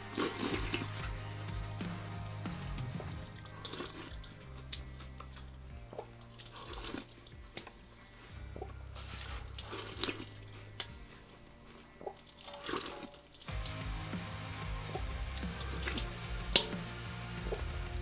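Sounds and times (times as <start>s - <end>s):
quiet background music: 0.0s - 18.0s
slurping and chewing cereal: 0.0s - 18.0s.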